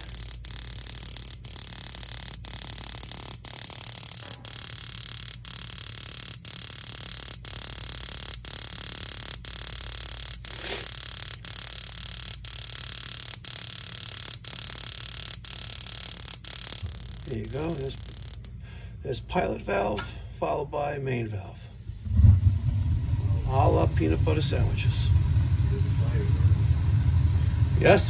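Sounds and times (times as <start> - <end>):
gas hissing from valve: 0.0 - 18.6, 21.8 - 28.0.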